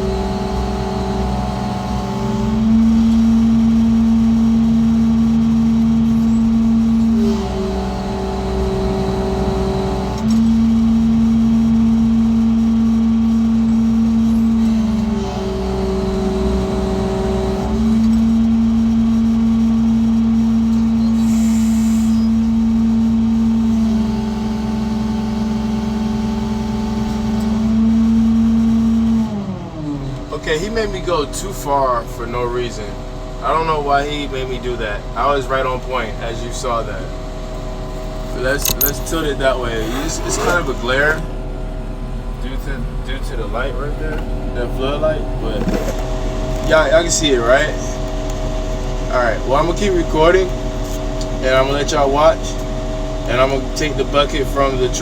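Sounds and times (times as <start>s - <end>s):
crane diesel engine and hydraulics: 0.0s - 55.0s.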